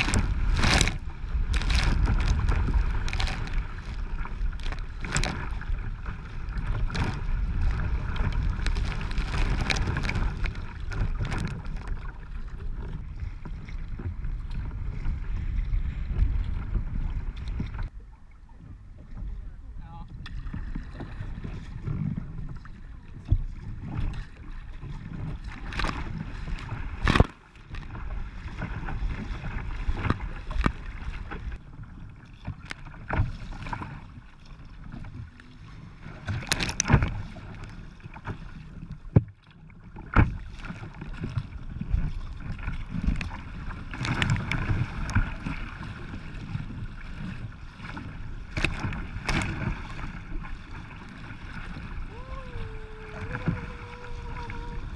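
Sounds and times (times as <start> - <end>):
water sloshing against kayak: 0.0 - 54.9.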